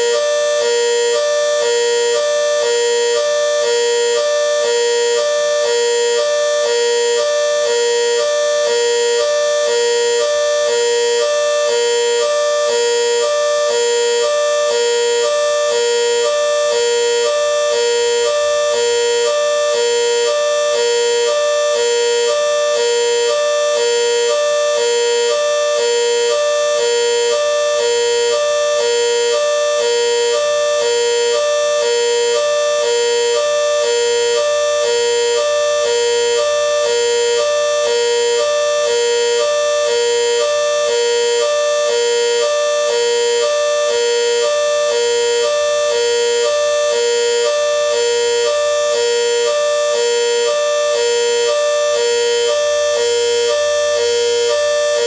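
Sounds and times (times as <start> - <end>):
hi-lo alarm tone: 0.0 - 55.0.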